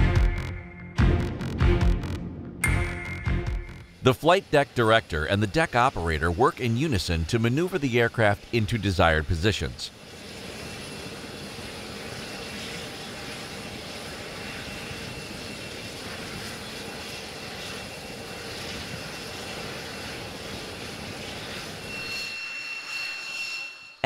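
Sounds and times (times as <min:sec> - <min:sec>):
jet engine noise: 0:02.0 - 0:24.0.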